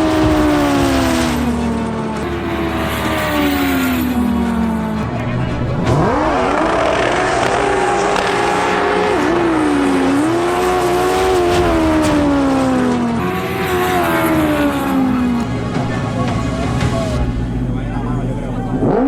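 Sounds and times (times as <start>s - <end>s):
jet ski engine revving: 0.0s - 19.0s
second engine: 0.0s - 19.0s.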